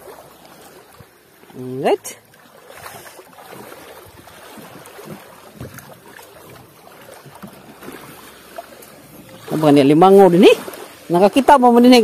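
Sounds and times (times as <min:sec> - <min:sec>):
people wading splashes: 0:00.0 - 0:12.0
water sloshing around boat hull: 0:00.0 - 0:12.0.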